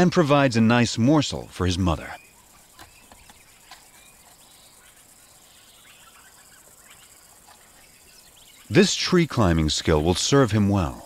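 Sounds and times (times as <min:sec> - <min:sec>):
faint bush ambience: 0:00.0 - 0:11.0.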